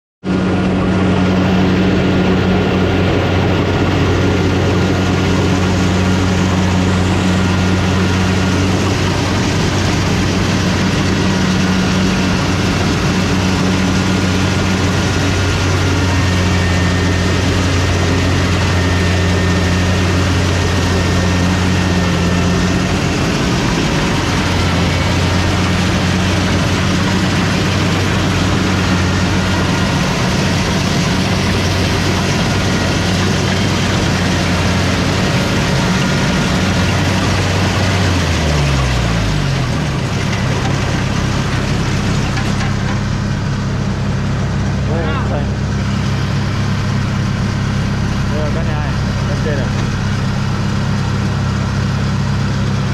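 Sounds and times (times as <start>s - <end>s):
diesel engine running under load: 0.2s - 52.9s.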